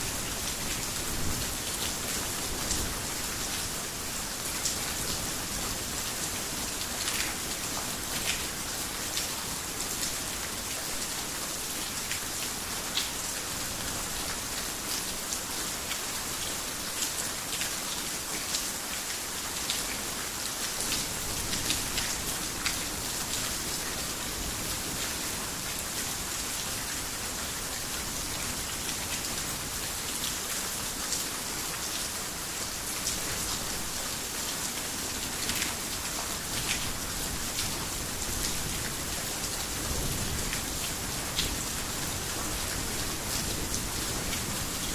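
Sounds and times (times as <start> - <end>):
heavy rain on a roof: 0.0 - 44.9.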